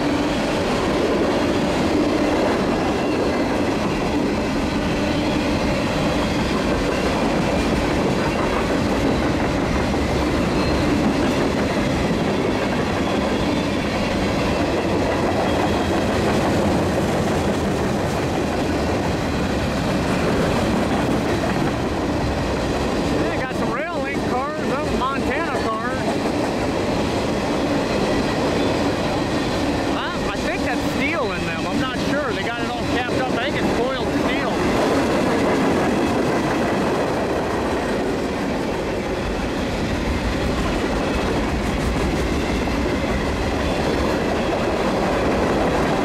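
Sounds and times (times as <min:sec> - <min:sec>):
steel train wheels on rails: 0:00.0 - 0:46.0.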